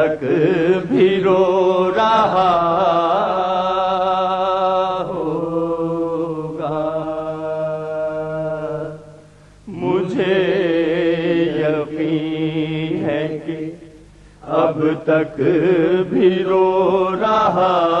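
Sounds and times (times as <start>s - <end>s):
men chanting: 0.0s - 9.0s, 9.7s - 13.8s, 14.4s - 18.0s.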